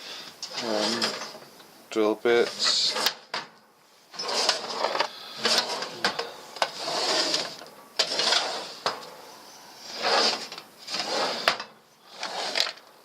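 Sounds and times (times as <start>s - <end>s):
drawers sliding: 0.5s - 1.4s, 2.4s - 3.5s, 4.1s - 12.9s.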